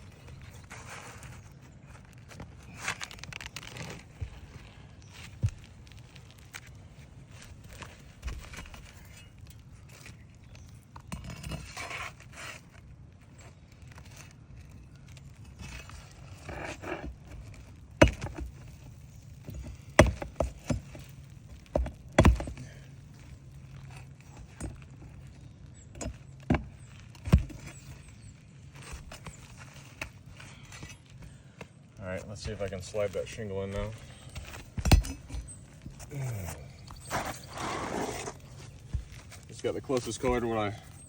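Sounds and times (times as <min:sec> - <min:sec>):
metal tool scraping under shingle: 0:00.0 - 0:31.4, 0:32.2 - 0:41.0.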